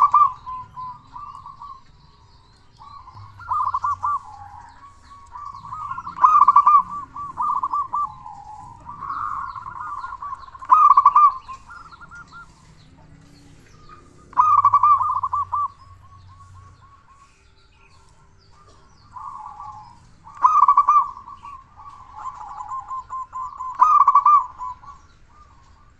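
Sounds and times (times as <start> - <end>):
dove cooing: 0.0 - 25.9.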